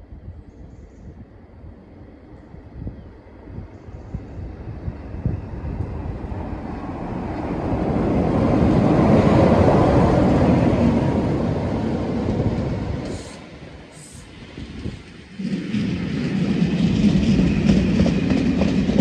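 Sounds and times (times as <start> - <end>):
diesel locomotive engine rumbling: 0.0 - 19.0
coaches rolling on rails: 3.3 - 19.0.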